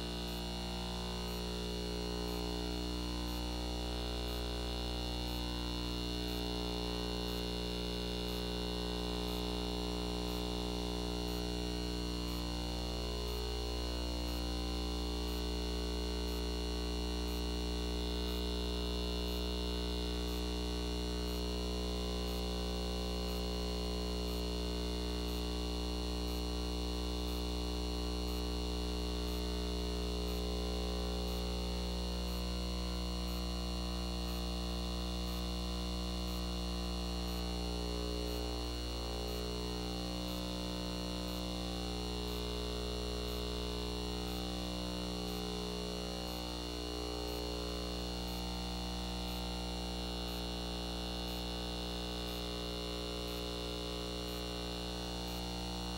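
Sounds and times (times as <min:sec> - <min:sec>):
steady electrical hum: 0:00.0 - 0:55.9.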